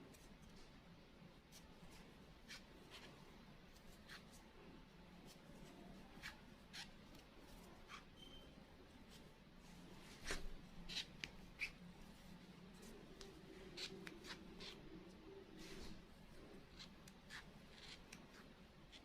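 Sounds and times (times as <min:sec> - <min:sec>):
crochet hook and yarn rustling: 0:00.0 - 0:19.0
low room hum: 0:00.0 - 0:19.0.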